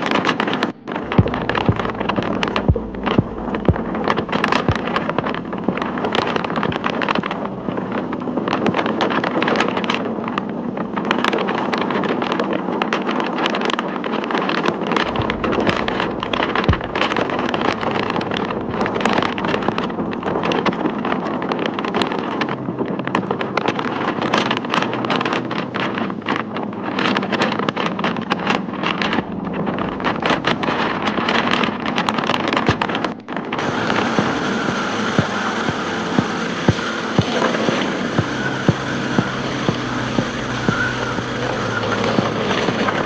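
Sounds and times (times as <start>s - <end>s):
wind blasting microphone: 0.0s - 43.0s
wind-driven spray and rain: 0.0s - 43.0s.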